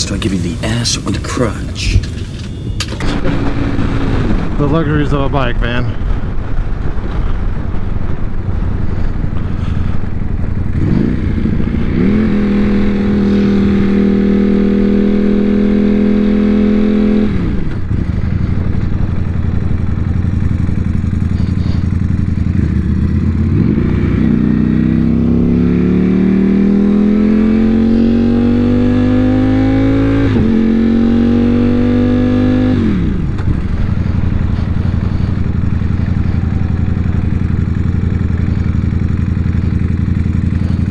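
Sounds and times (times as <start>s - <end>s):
rushing riding noise: 0.0s - 40.9s
motorcycle engine revving: 1.4s - 40.9s.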